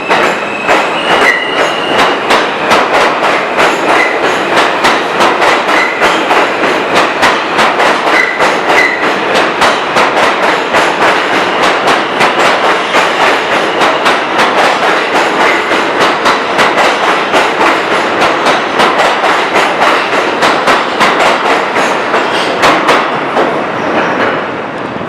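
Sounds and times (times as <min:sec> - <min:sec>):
subway train wheels clattering: 0:00.0 - 0:25.0.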